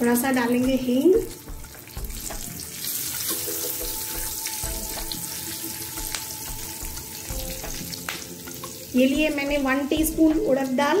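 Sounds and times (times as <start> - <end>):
oil sizzling in a pan: 0.0 - 11.0
soft background music: 0.0 - 11.0.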